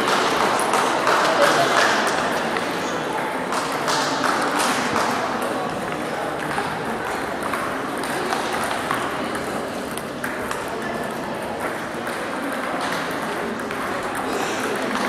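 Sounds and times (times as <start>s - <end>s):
table tennis balls clicking: 0.0s - 15.0s.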